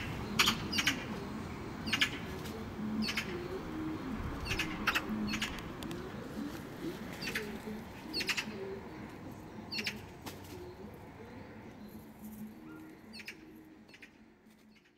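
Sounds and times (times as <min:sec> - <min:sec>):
birds chirping: 0:00.0 - 0:14.9
low steady background: 0:00.0 - 0:14.9.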